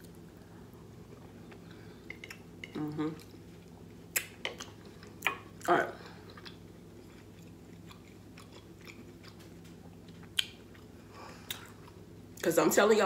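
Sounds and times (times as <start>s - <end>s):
quiet chewing: 0.1s - 12.0s.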